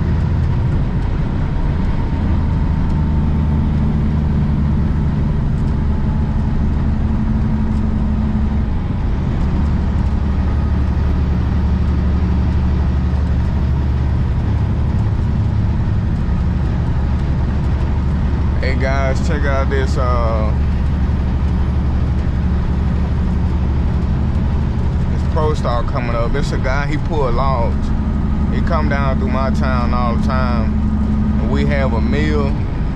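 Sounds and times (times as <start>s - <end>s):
road noise: 0.0s - 32.9s
truck diesel engine droning: 0.0s - 32.9s.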